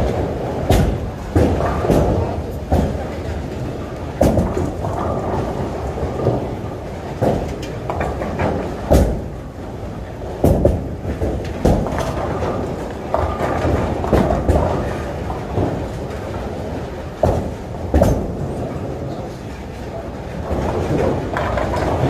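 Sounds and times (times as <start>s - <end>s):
bowling balls rumbling down lanes: 0.0s - 22.0s
bowling pins crashing: 0.0s - 22.0s.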